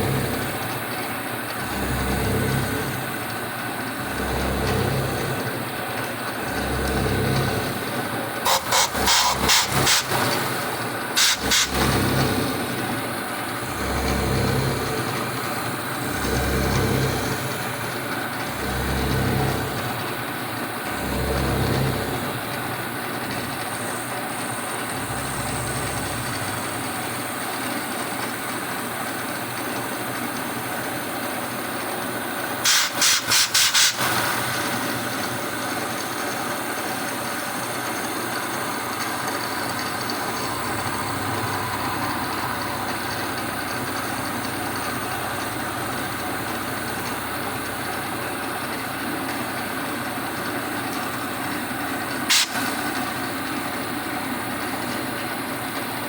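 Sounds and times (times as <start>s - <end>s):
milling machine cutting metal: 0.0s - 29.9s, 32.0s - 55.1s.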